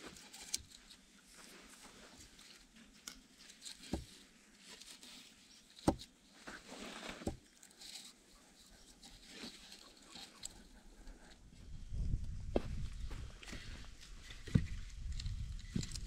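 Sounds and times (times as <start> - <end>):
cord rustling and scraping on bark: 0.0 - 11.7, 13.0 - 16.0.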